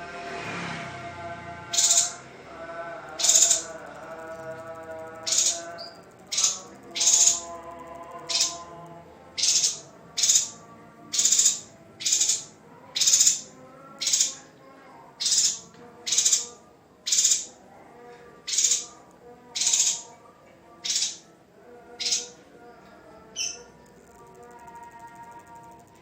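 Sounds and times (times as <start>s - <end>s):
faint music: 0.0s - 26.0s.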